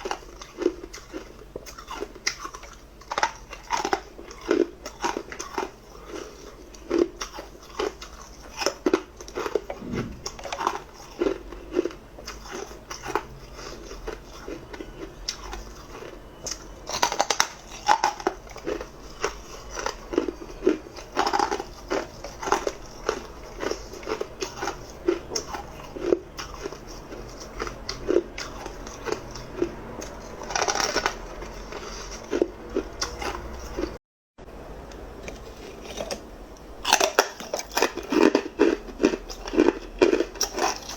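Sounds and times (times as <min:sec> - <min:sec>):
person crunching ice cubes: 0:00.0 - 0:33.9, 0:36.8 - 0:40.9.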